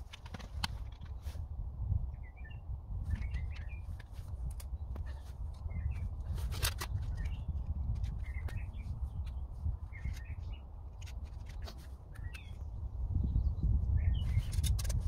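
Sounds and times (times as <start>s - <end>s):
small birds chirping: 2.1s - 15.0s.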